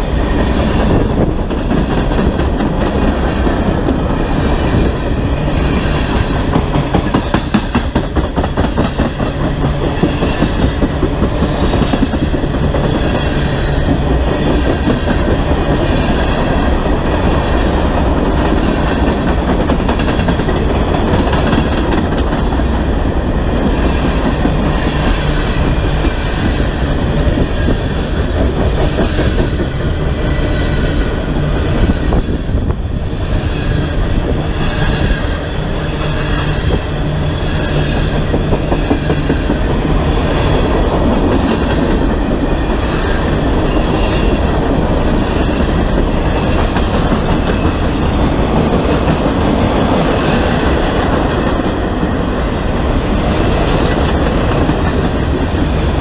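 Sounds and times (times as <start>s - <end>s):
train wheels rolling on rail: 0.0s - 56.0s.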